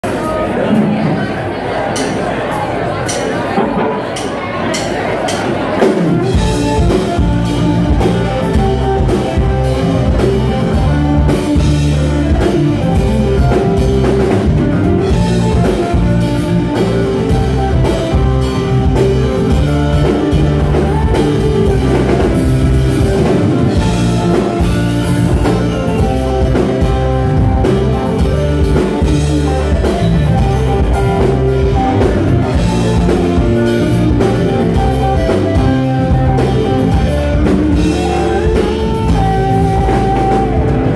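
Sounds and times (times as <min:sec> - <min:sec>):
live rock band: 0:00.0 - 0:40.9.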